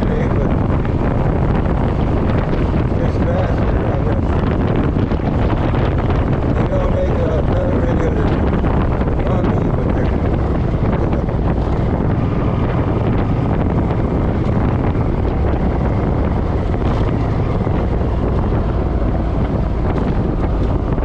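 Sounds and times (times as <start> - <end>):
motorcycle running: 0.0 - 21.0
road noise: 0.0 - 21.0
wind buffeting microphone: 0.0 - 21.0.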